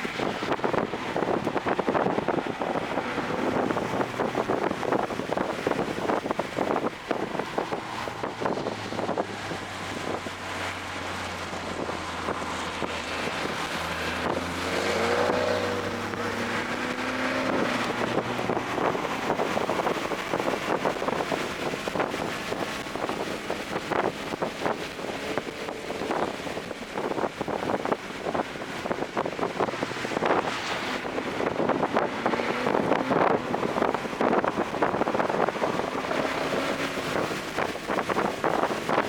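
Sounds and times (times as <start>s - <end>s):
car engine running: 0.0s - 39.0s
wind buffeting microphone: 0.0s - 39.0s.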